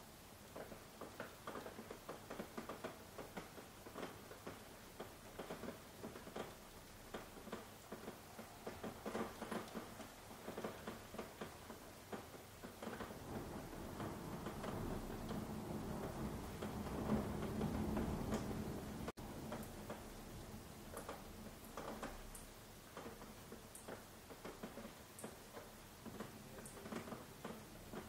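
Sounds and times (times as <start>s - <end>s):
faint rain hiss: 0.0s - 28.0s
raindrops tapping: 0.0s - 28.0s.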